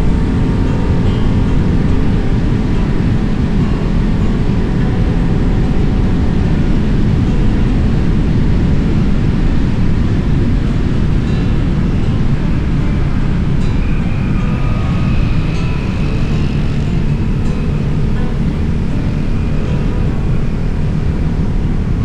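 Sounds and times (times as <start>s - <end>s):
motorbike riding on road: 0.0s - 22.0s.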